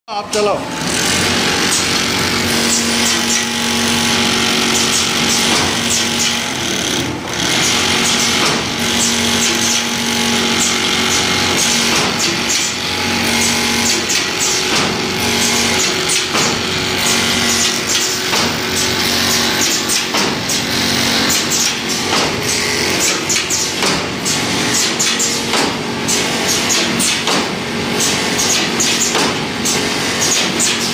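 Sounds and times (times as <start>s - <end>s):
stitching machine clatter: 0.7s - 30.9s.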